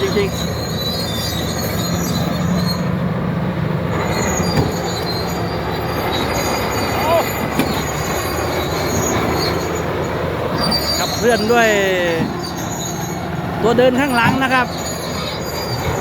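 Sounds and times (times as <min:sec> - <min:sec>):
bulldozer diesel engine: 0:00.0 - 0:16.0
steel tracks squealing and clanking: 0:00.0 - 0:16.0.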